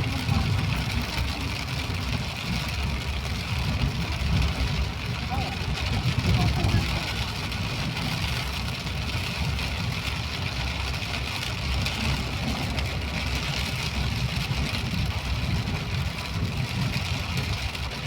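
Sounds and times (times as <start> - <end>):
rain hiss: 0.0 - 18.0
vehicle engine and road rumble: 0.0 - 18.0.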